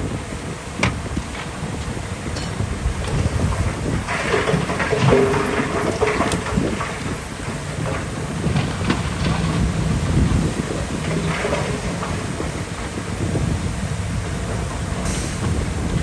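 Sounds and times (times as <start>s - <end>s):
bulldozer diesel engine rumble: 0.0s - 16.0s
steel tracks clanking: 0.0s - 16.0s.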